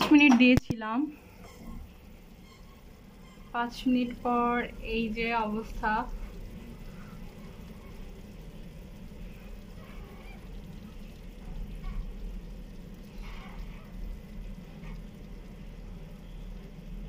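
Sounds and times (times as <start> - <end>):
oven electrical hum: 0.0 - 17.0.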